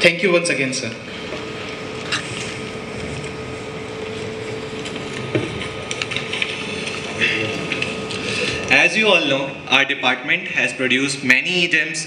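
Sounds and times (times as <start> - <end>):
ceiling fans and air conditioners hum: 0.0 - 12.0.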